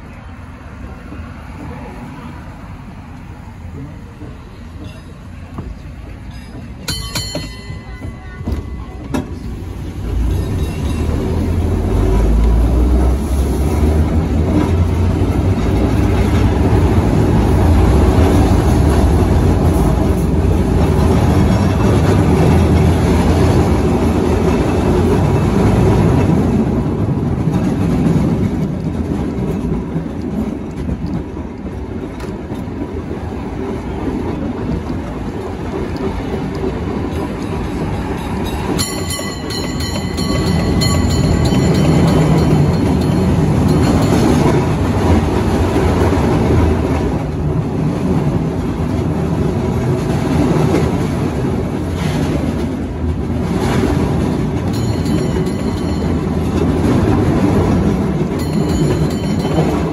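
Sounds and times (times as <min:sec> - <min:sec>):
streetcar rolling on rails: 0:00.0 - 0:59.9.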